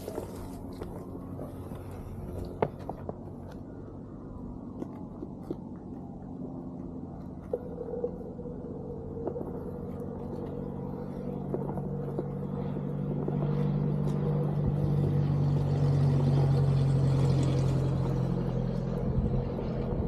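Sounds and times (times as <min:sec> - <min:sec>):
tyre and trail noise: 0:00.0 - 0:20.0.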